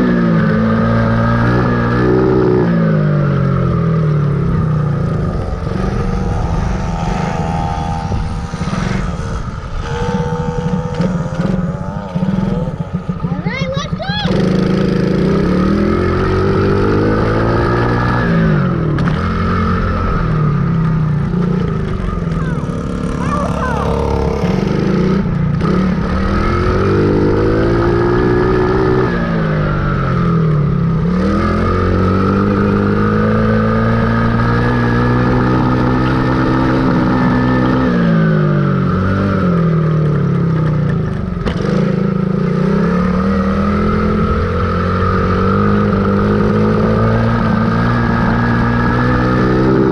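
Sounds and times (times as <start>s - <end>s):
dirt bike engine: 0.0s - 49.9s.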